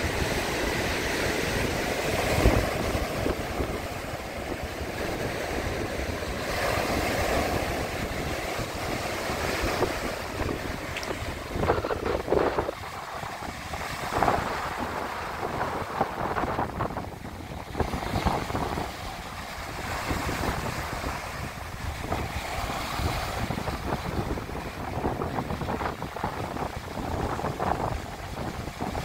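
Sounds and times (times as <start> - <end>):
waves washing up a gravel beach: 0.0 - 29.0
wind buffeting microphone: 0.0 - 29.0.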